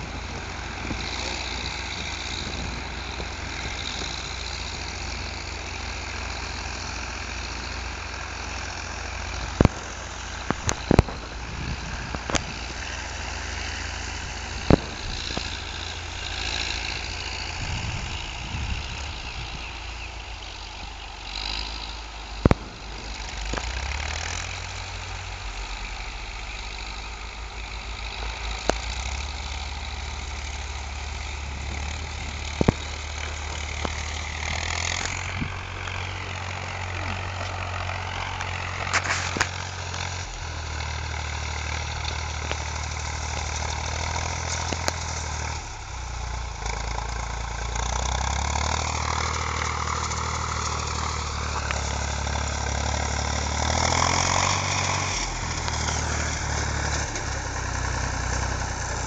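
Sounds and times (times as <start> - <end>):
diesel tractor engines: 0.0 - 59.0.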